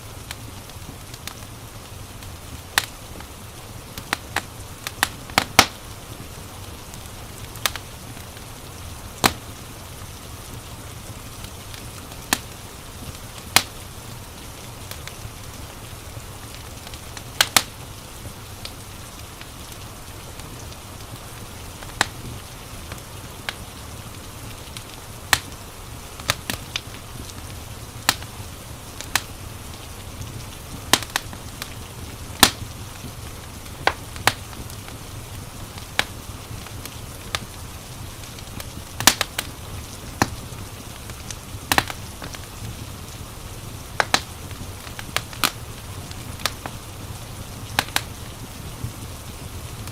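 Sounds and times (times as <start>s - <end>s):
rain hissing: 0.0s - 49.9s
wood fire crackling and popping: 0.0s - 49.9s.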